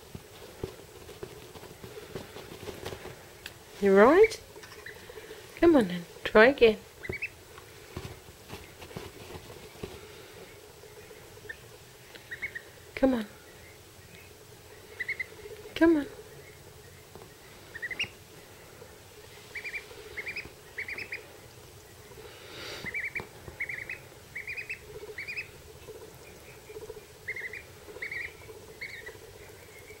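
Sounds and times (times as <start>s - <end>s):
duckling peeping: 0.6s - 5.4s, 6.6s - 7.4s, 8.5s - 30.0s.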